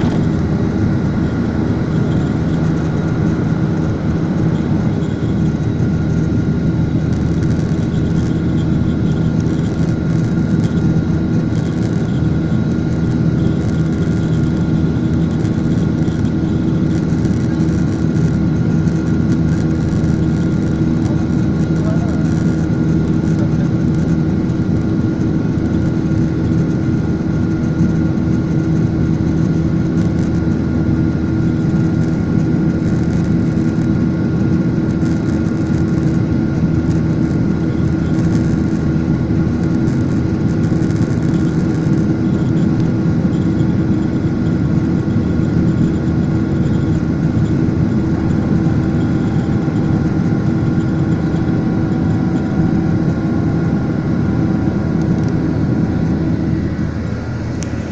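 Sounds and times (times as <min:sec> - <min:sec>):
airliner engines droning: 0:00.0 - 0:57.9.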